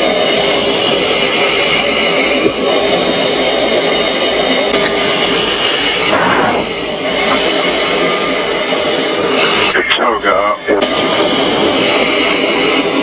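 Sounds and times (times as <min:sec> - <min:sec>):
jet engine roar: 0:00.0 - 0:13.0
thin wavering high whine: 0:00.0 - 0:13.0.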